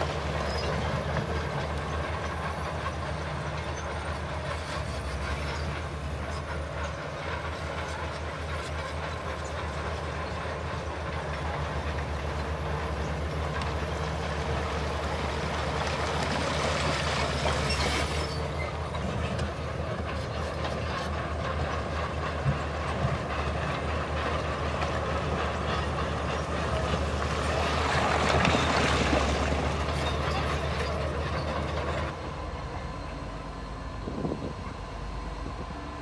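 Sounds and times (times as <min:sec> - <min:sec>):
bulldozer diesel engine running: 0:00.0 - 0:36.0
crawler tracks clanking: 0:00.0 - 0:36.0.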